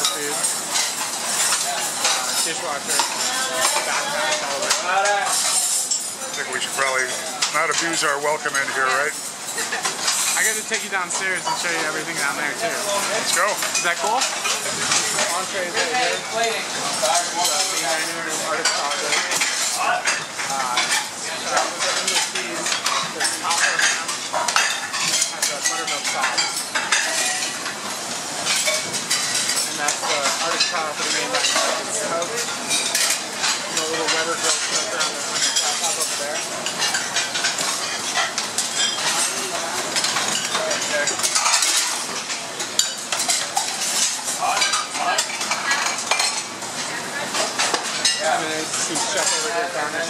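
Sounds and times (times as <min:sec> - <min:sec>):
cooks' voices: 0:00.0 - 0:50.0
pans and plates clinking: 0:00.0 - 0:50.0.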